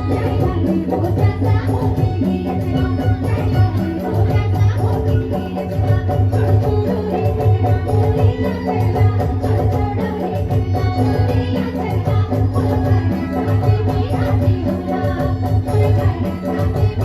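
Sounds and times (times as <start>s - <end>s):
folk singing: 0.0s - 17.0s
jingling percussion: 0.0s - 17.0s.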